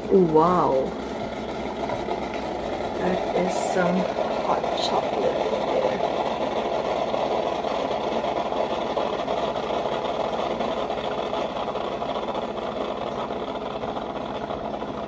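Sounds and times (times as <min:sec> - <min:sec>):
pulsing pump hum: 0:00.0 - 0:15.0.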